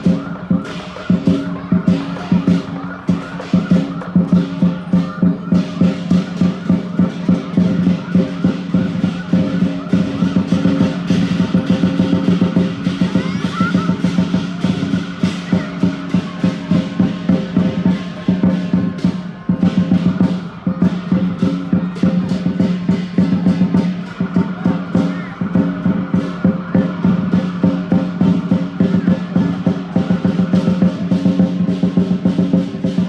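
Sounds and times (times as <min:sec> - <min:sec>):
large drum roll: 0:00.0 - 0:33.0
ringing cymbals: 0:00.0 - 0:33.0.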